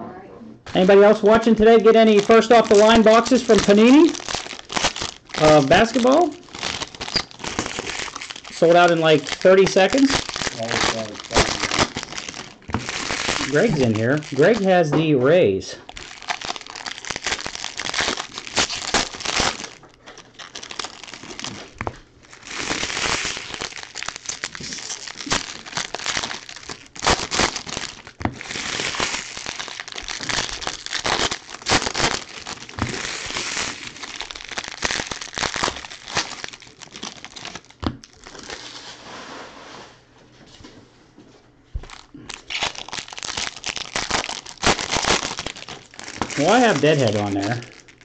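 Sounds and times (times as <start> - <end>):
foil wrappers crinkling: 0.7 - 14.9, 15.6 - 39.0, 41.8 - 48.0.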